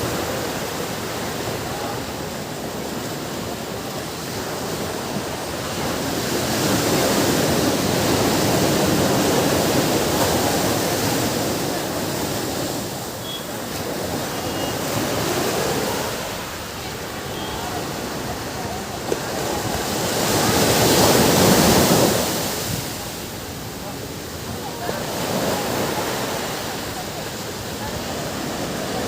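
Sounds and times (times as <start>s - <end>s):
ocean surf breaking: 0.0s - 29.0s.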